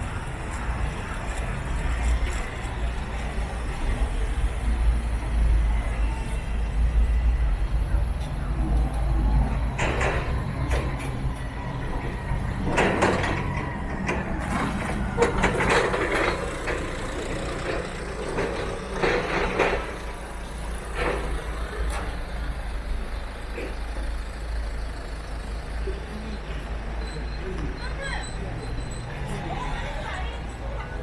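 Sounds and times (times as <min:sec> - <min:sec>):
street noise: 0:00.0 - 0:31.0
truck engine idling: 0:00.0 - 0:31.0.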